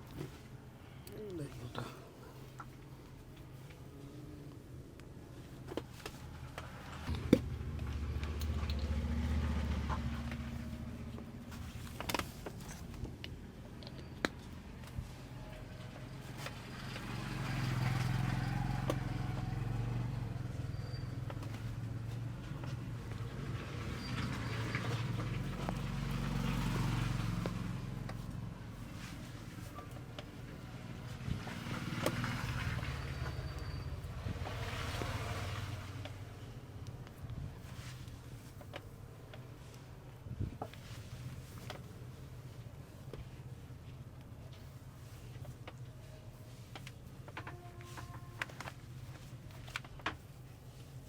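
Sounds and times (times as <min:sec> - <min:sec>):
low engine rumble: 0:00.0 - 0:51.0.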